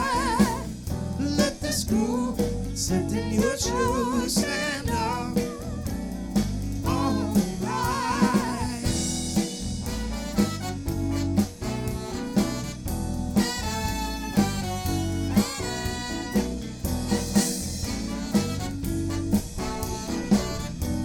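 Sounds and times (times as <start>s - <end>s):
drum accents: 0.0s - 21.0s
live soul band playing: 0.0s - 21.0s.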